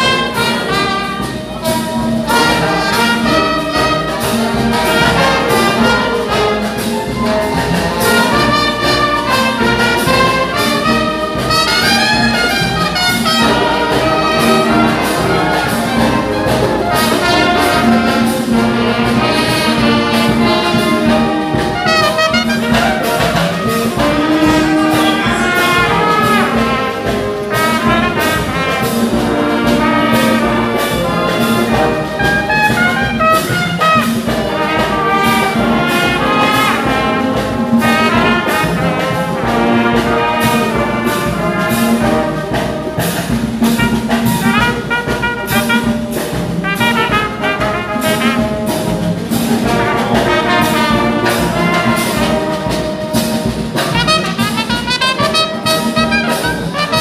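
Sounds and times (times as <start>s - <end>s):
brass band playing: 0.0s - 57.0s
steady drum beat: 0.0s - 57.0s.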